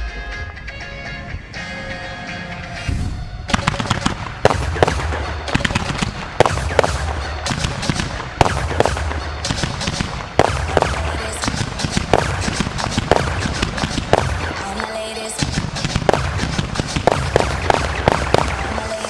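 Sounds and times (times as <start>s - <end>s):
music: 0.0s - 19.0s
loud firework reports: 2.8s - 19.0s
fireworks shots and crackling: 2.9s - 19.0s.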